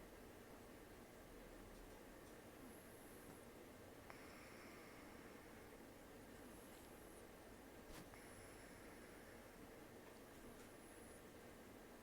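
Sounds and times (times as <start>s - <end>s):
room background hiss: 0.0s - 12.0s.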